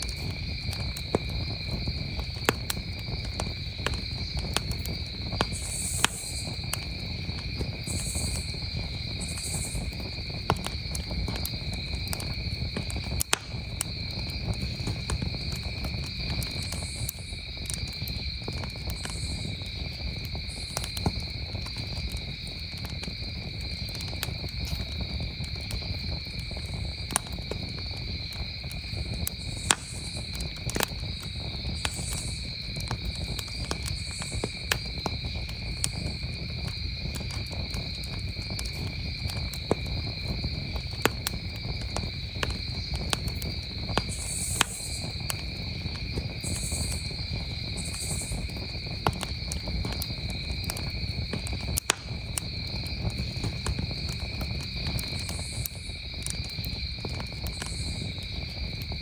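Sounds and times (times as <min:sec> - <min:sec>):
campfire crackling and popping: 0:00.0 - 0:59.0
crickets chirring: 0:00.0 - 0:59.0.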